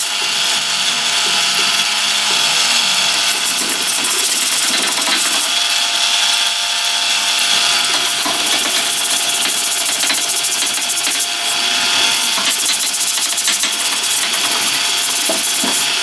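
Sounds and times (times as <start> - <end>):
power tool whining: 0.0 - 16.0.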